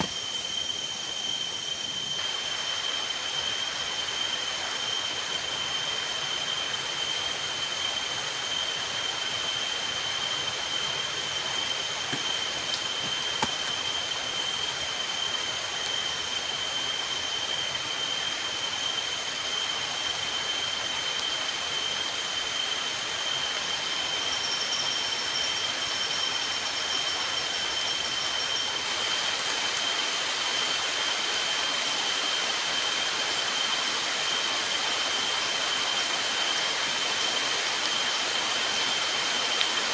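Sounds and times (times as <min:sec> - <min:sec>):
heavy rain falling: 0:00.0 - 0:39.9
high-pitched insect drone: 0:00.0 - 0:39.9.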